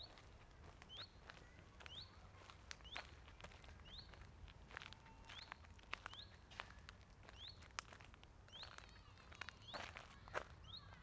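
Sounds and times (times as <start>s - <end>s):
footsteps on gravel: 0.0s - 11.0s.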